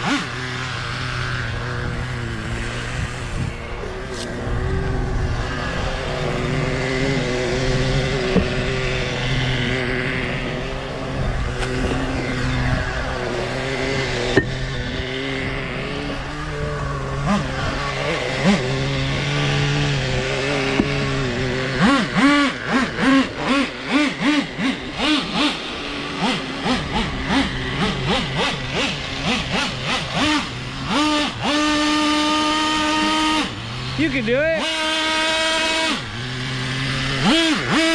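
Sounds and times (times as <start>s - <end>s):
nitro engine revving: 0.0s - 37.9s.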